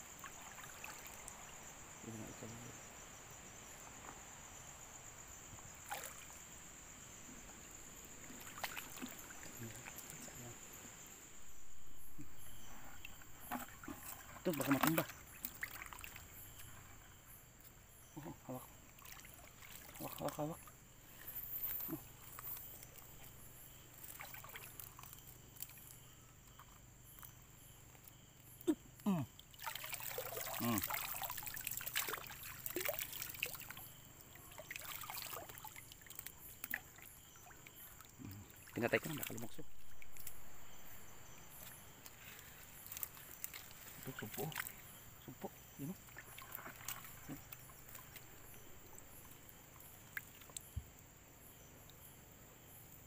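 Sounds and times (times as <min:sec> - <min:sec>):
wading through shallow water: 0:00.0 - 0:02.1, 0:03.8 - 0:51.1
insect chorus: 0:00.0 - 0:53.0.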